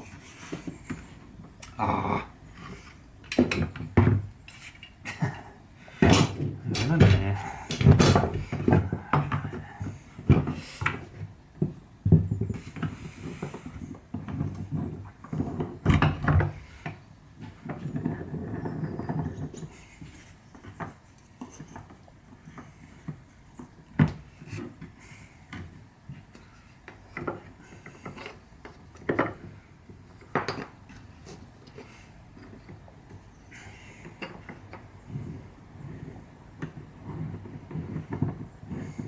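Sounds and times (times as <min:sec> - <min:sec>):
wood rubbing: 0:00.0 - 0:39.0
wood knocking on wood: 0:06.0 - 0:39.0.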